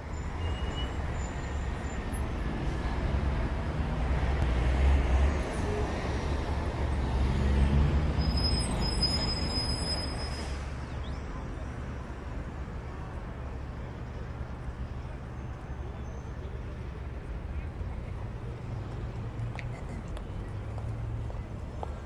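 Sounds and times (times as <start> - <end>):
vehicles driving past: 0.0 - 22.0.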